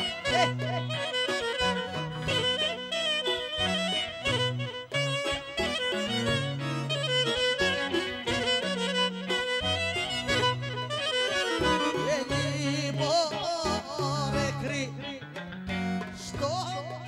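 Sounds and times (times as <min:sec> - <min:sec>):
clarinet melody: 0:00.0 - 0:14.4
bass line and accompaniment: 0:00.0 - 0:17.0.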